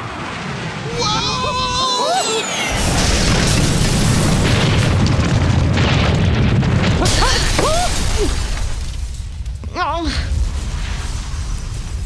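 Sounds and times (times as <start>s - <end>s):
rumbling cartoon explosion: 0.0s - 12.0s.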